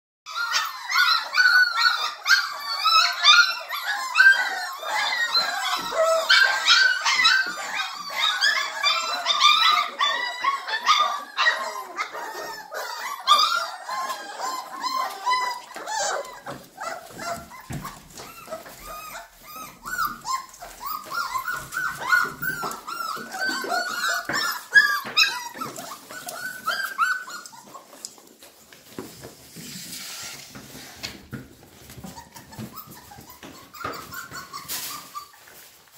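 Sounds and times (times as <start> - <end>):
puppies yelping and whining: 0.3 - 35.9.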